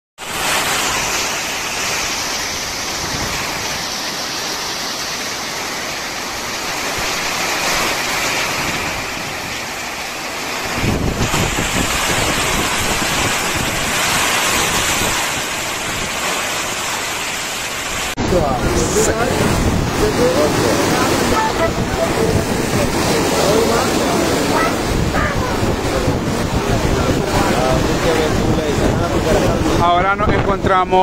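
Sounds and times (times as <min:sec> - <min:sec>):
wind and heavy rain rushing: 0:00.2 - 0:31.0
gusts buffeting microphone: 0:00.4 - 0:31.0.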